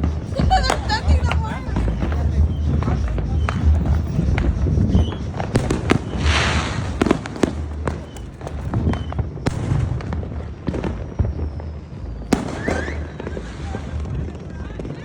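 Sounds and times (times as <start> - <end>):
fireworks bangs and pops: 0.0 - 15.0
fireworks hissing crackle: 0.0 - 15.0.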